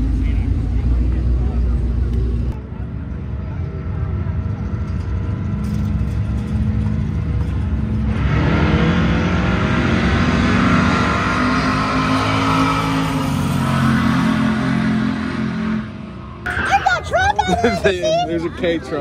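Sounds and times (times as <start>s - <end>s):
drag racing engines accelerating: 0.0s - 19.0s.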